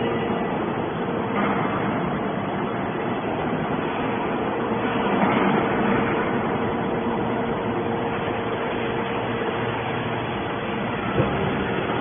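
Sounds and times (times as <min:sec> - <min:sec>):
baler machine humming and whining: 0:00.0 - 0:12.0.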